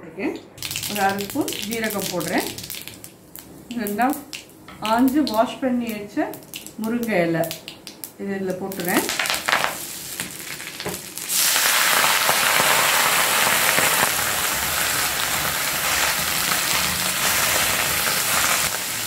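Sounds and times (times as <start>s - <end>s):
leaves sizzling in hot oil: 0.6s - 8.1s, 8.7s - 19.0s.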